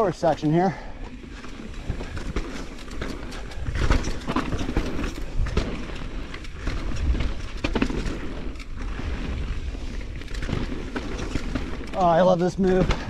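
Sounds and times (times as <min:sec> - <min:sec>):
bike rattling and knocking: 0:00.0 - 0:13.0
tyres rolling over dirt: 0:00.0 - 0:13.0.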